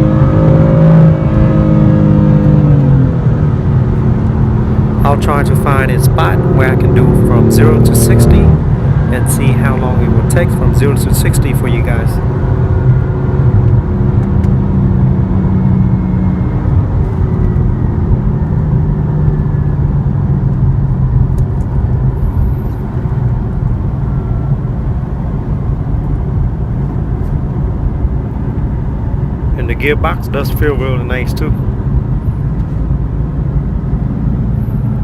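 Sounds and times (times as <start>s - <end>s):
car engine running: 0.0s - 35.0s
tyre and road noise: 0.0s - 35.0s.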